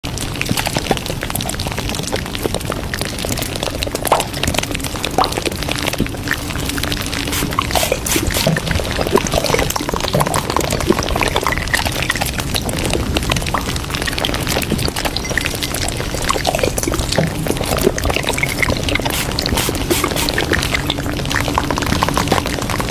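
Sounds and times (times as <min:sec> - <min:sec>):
water pouring and splashing: 0:00.0 - 0:22.9.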